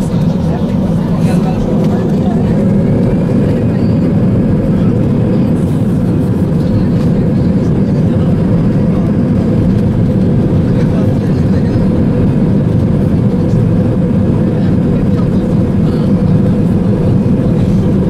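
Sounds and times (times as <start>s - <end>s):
airliner engine and rolling noise: 0.0s - 18.0s.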